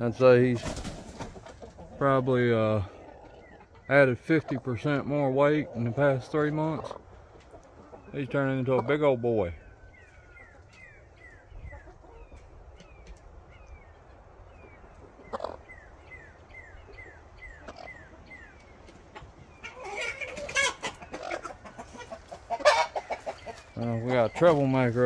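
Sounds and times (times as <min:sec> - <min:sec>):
chickens clucking and squawking: 0:00.0 - 0:25.0.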